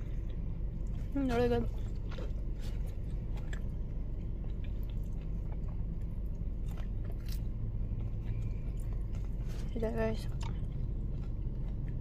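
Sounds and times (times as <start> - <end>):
chewing food: 0.0 - 12.0
steady low hum: 0.0 - 12.0.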